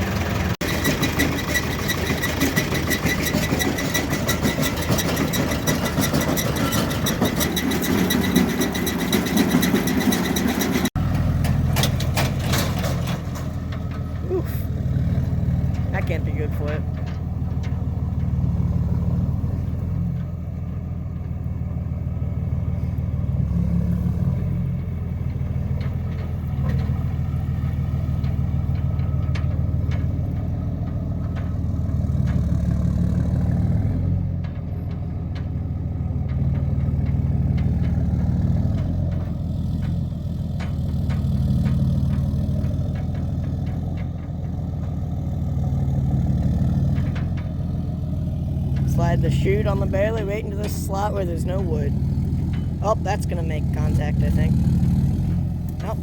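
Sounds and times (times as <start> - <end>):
vehicle engine running: 0.0 - 56.0
light clanks: 0.6 - 14.4, 15.1 - 20.4, 24.0 - 32.6, 33.8 - 52.9.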